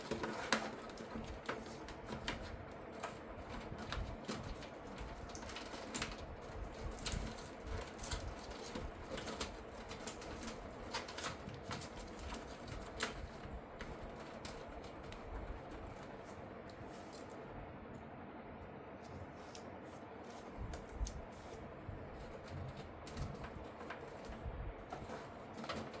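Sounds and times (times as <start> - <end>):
cables and plastic connectors handled: 0.0 - 17.4, 19.0 - 26.0.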